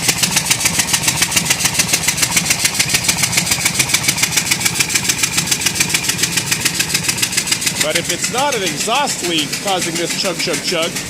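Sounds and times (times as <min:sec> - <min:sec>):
engine idling with rapid chug: 0:00.0 - 0:11.0.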